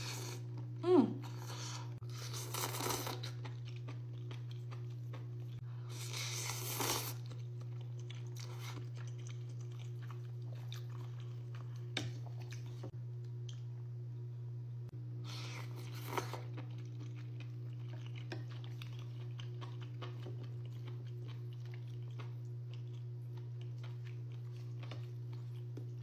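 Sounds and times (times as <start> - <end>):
steady low hum: 0.0 - 26.0
crunchy bites and chewing: 1.6 - 12.8, 15.3 - 26.0.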